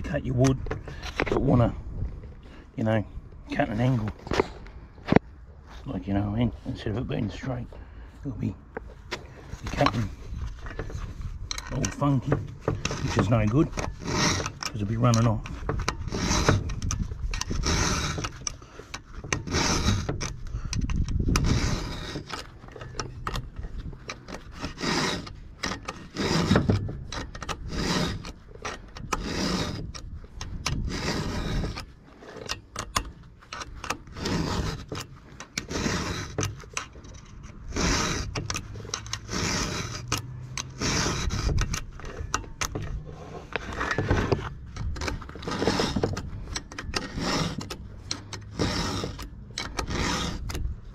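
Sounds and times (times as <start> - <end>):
file rasping on chainsaw chain: 9.3 - 50.9.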